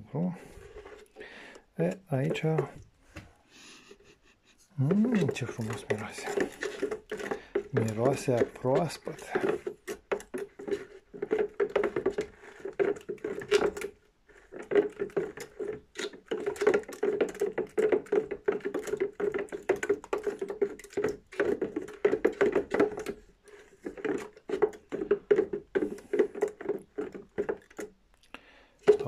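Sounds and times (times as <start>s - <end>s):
wooden spoon scraping plastic: 0.0s - 29.0s.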